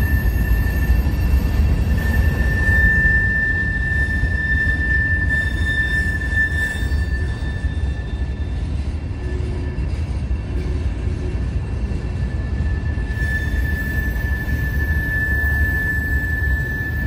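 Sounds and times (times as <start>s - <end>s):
high wheel squeal: 0.0s - 17.0s
steel wheels rumbling on rail: 0.0s - 17.0s.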